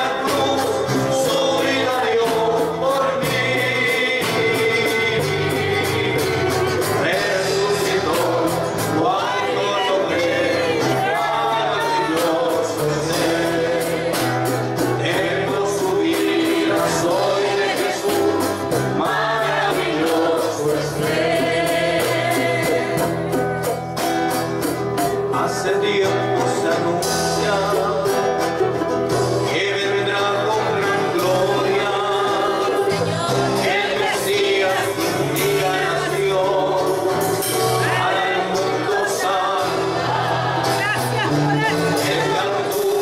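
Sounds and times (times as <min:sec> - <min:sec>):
congregation singing: 0:00.0 - 0:43.0
instrumental accompaniment with bass: 0:00.0 - 0:43.0.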